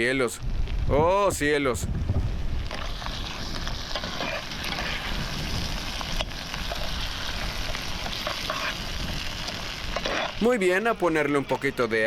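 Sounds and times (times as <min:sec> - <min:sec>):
fire crackling: 0:00.0 - 0:12.0
wind on microphone: 0:00.4 - 0:10.0
sauce sizzling and bubbling: 0:00.5 - 0:12.0.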